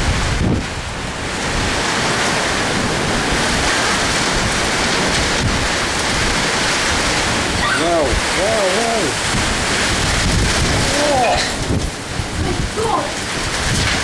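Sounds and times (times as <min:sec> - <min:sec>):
heavy rain pouring: 0:00.0 - 0:14.0
wind buffeting microphone: 0:00.0 - 0:14.0.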